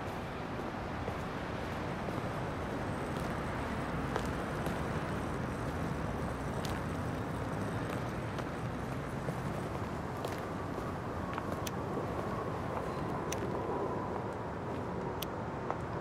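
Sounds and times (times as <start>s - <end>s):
dense motorway traffic: 0.0s - 16.0s.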